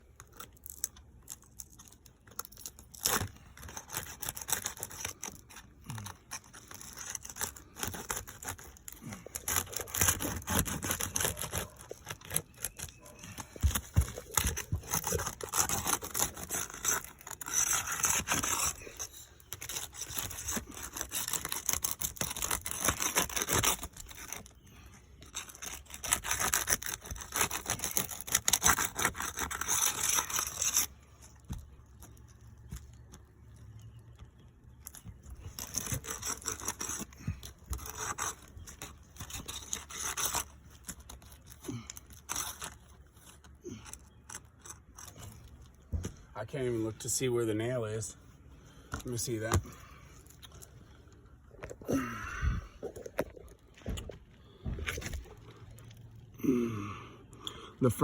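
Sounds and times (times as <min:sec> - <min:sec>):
roof shingles scraping and tearing: 0:00.1 - 0:34.0, 0:34.8 - 0:50.8.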